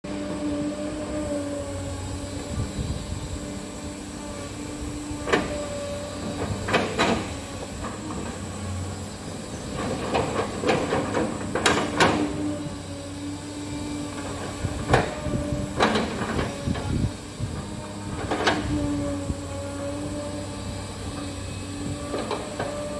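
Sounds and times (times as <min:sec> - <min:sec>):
excavator engine and hydraulics whine: 0:00.0 - 0:22.9.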